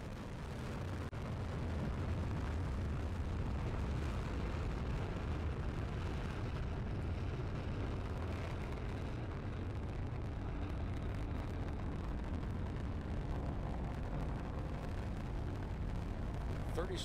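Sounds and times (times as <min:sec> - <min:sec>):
rocket engines rumbling: 0:00.0 - 0:17.0.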